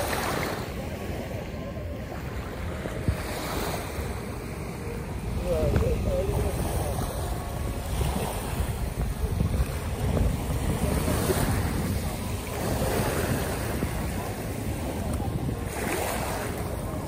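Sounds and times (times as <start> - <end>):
small waves lapping on sand: 0.0 - 17.0
wind rumbling on microphone: 0.0 - 17.0.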